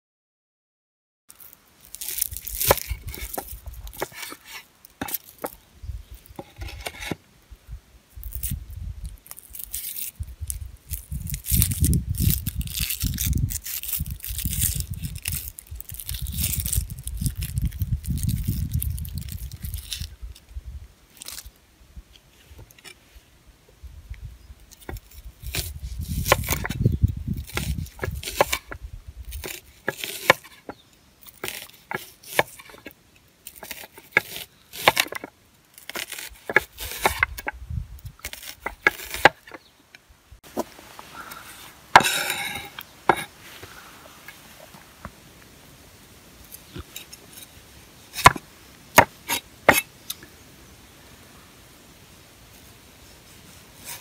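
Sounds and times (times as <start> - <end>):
crackling rustle: 1.3 - 54.0.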